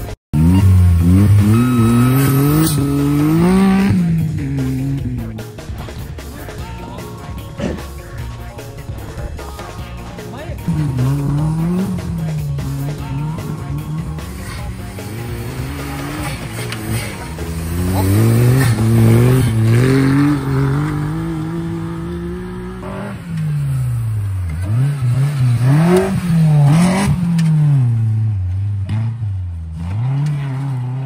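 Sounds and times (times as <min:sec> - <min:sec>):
car engines revving hard: 0:00.0 - 0:06.6, 0:09.7 - 0:31.0.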